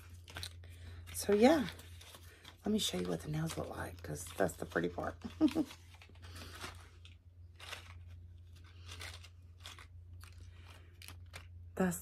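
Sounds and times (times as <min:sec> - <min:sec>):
stiff plastic crackling: 0:00.0 - 0:11.9
low steady hum: 0:00.0 - 0:12.0.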